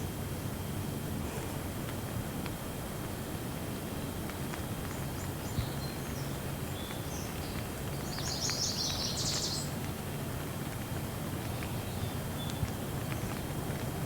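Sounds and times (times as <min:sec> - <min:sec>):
rain hiss: 0:00.2 - 0:14.0.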